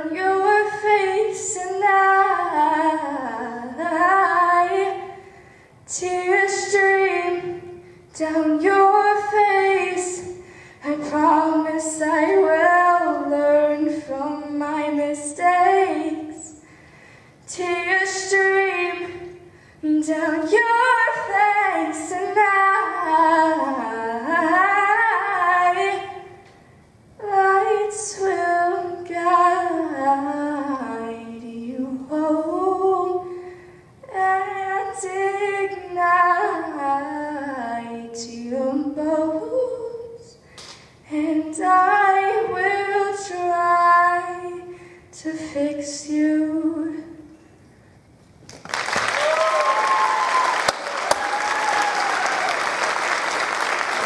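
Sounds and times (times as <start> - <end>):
teenage girl singing: 0.0 - 16.8, 17.5 - 26.6, 27.2 - 47.5.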